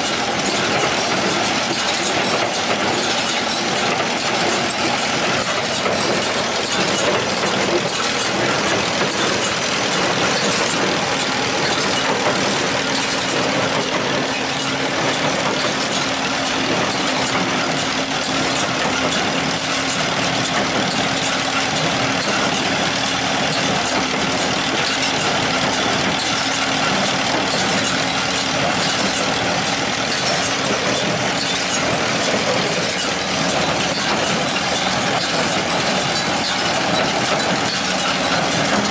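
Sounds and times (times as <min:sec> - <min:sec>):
hay baler engine and machinery: 0:00.0 - 0:38.9.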